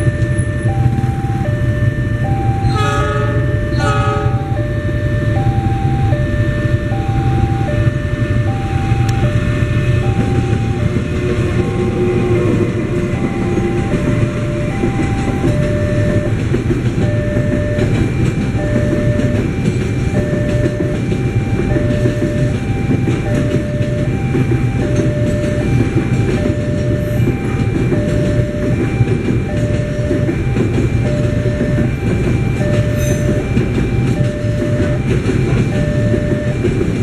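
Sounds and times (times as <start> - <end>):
crossing alarm two-note tone: 0.0 - 37.0
train wagons rumbling on rails: 0.0 - 37.0.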